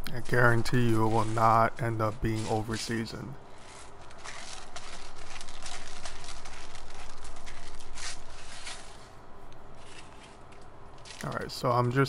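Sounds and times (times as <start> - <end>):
steady low hum: 0.0 - 12.0
foil crinkling: 0.1 - 12.0.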